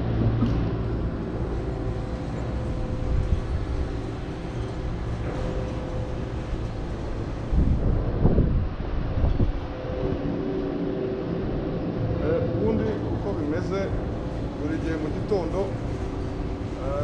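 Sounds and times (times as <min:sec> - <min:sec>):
machine engine rumbling drone: 0:00.0 - 0:17.0.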